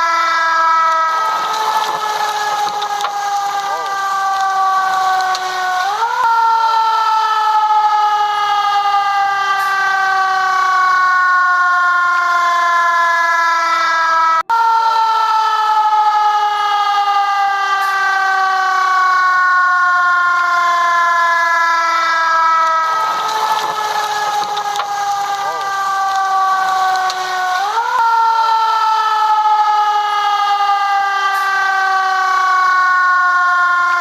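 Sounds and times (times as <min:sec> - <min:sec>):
siren sliding in pitch: 0:00.0 - 0:34.0.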